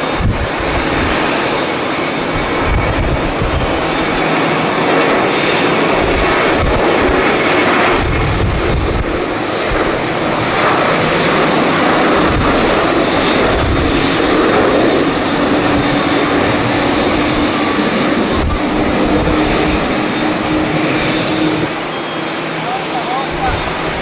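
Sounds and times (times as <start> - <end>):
wind rumbling on microphone: 0.0 - 21.8, 23.3 - 24.0
jet airliner engines roaring: 0.0 - 24.0.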